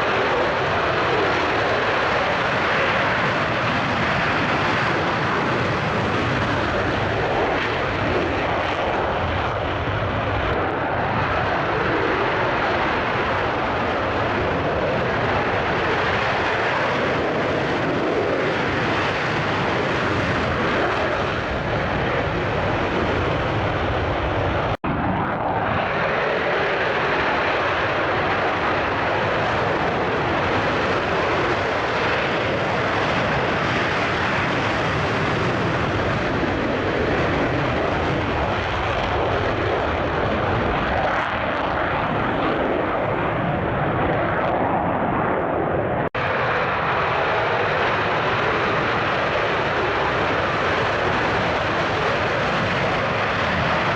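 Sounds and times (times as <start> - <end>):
fighter jet engine roar: 0.0 - 53.9.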